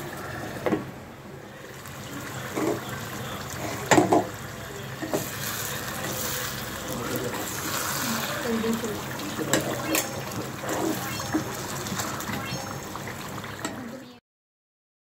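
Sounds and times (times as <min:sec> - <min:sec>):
curry bubbling in a pot: 0:01.6 - 0:14.2.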